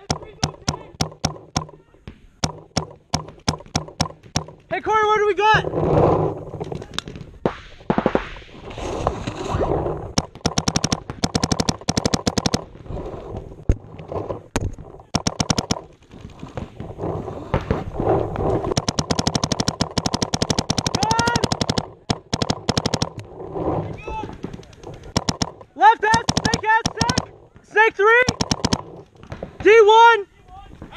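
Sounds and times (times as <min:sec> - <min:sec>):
paintball markers firing: 0:00.0 - 0:04.7, 0:10.1 - 0:13.8, 0:14.5 - 0:30.9.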